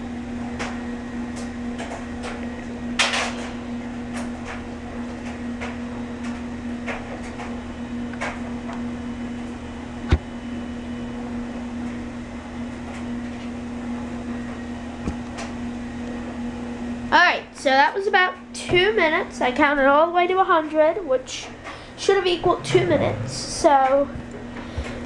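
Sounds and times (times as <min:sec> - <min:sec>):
indoor machine hum: 0:00.0 - 0:25.0.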